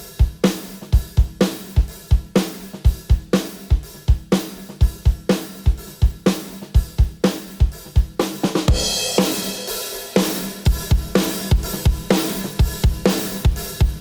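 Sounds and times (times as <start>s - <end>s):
drum kit beat: 0.0s - 14.0s.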